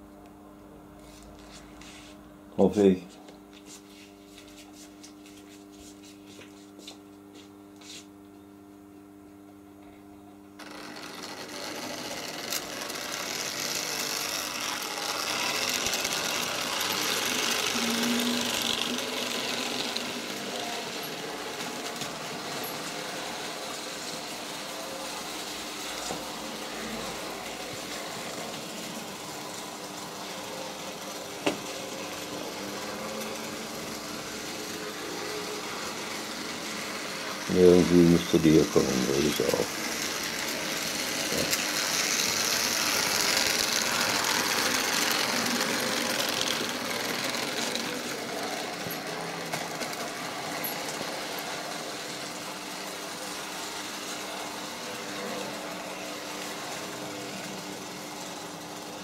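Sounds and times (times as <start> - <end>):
model train whirring on track: 10.6 - 59.0.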